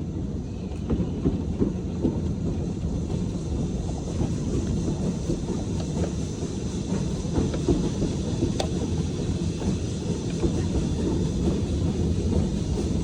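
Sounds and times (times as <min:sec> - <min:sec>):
train rumbling on track: 0:00.0 - 0:13.0
wheels clicking on rails: 0:00.0 - 0:13.0.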